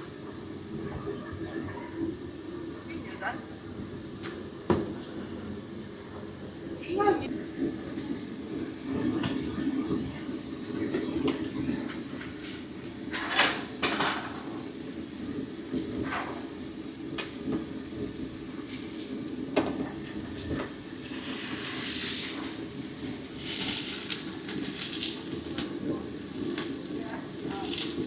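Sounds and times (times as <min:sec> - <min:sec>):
background hiss and hum: 0:00.0 - 0:28.0.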